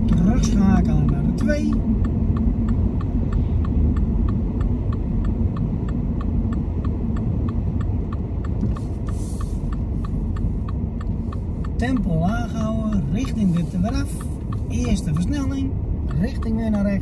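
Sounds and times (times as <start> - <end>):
car engine and tyres running: 0.0 - 17.0
turn signal ticking: 0.0 - 17.0.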